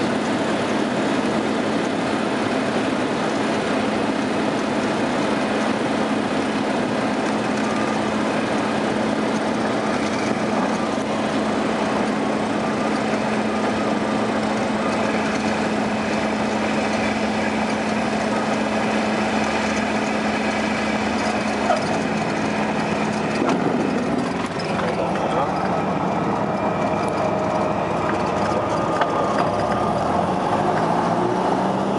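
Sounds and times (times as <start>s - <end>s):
light aircraft engine drone: 0.0s - 31.9s.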